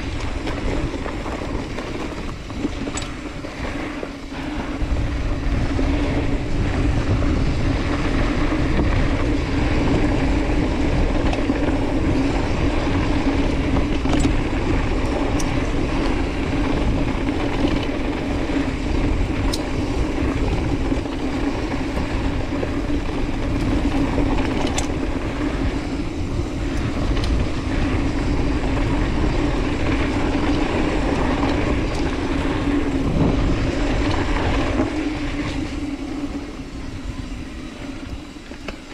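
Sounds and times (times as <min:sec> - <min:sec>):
bike tyre noise: 0:00.0 - 0:38.9
wind buffeting microphone: 0:00.0 - 0:38.9.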